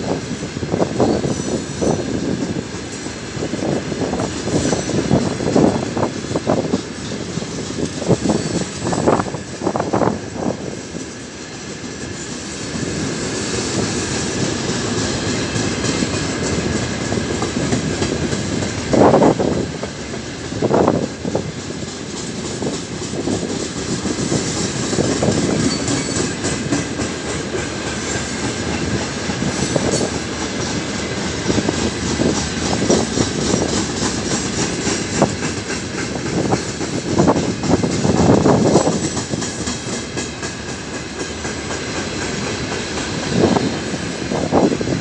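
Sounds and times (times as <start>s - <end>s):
freight wagons rumbling on rails: 0.0s - 45.0s
wheels clacking over rail joints: 0.0s - 45.0s.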